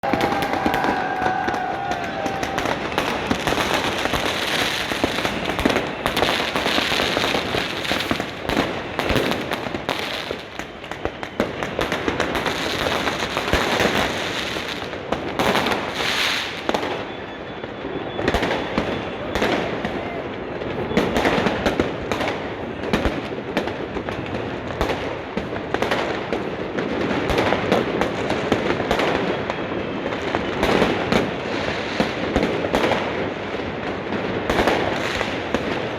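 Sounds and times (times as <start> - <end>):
fireworks crackling and banging: 0.0 - 35.9.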